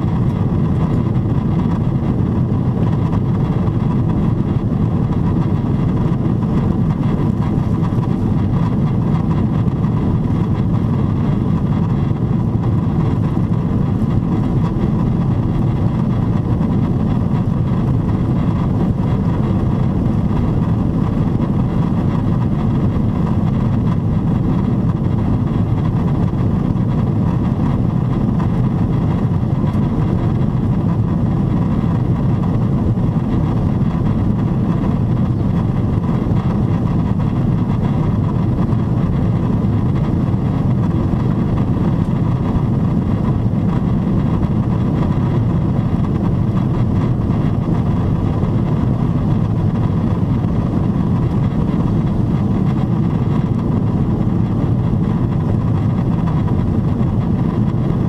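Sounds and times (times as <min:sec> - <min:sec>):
airplane cabin roar: 0:00.0 - 0:58.0
jet engines humming: 0:00.0 - 0:58.0.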